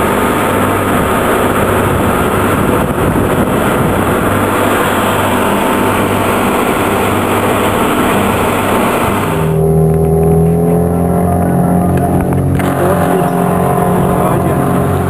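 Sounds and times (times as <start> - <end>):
boat engine running: 0.0 - 15.0
water rushing past hull: 0.0 - 15.0.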